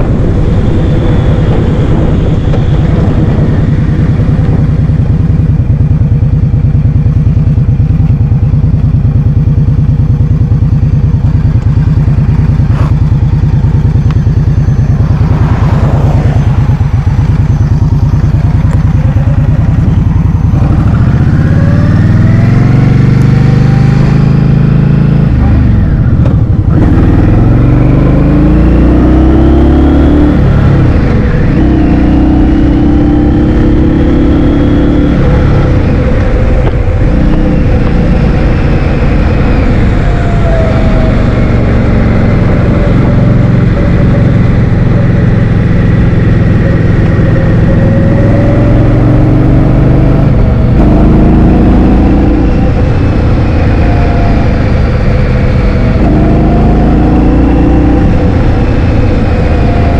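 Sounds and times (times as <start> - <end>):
wind rumble on microphone: 0.0 - 8.3, 11.2 - 59.9
motor scooter engine running: 0.0 - 59.9.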